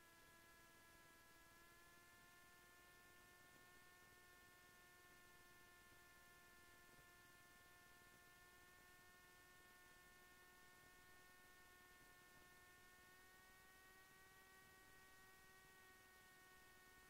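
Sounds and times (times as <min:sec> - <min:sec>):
faint high-pitched hum: 0:00.0 - 0:17.0.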